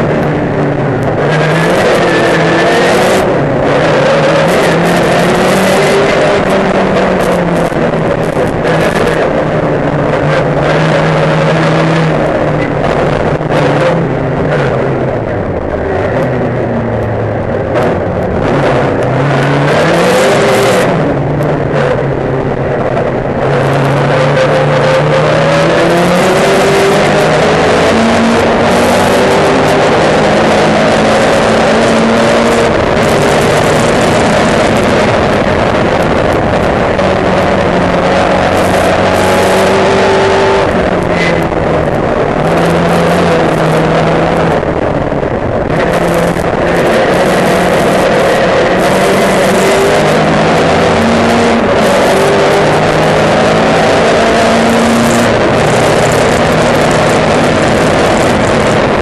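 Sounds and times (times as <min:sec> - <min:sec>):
racing car engine revving: 0:00.0 - 0:59.0
wind and road noise: 0:00.0 - 0:59.0.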